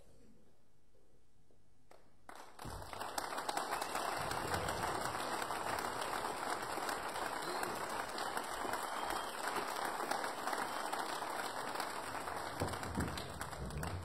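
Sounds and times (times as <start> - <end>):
audience applause: 2.3 - 14.0.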